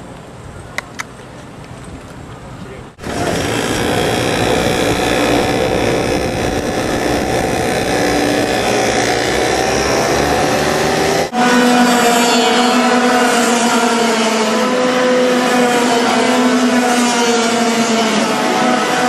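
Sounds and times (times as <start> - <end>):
racing kart engines buzzing: 3.0 - 19.0.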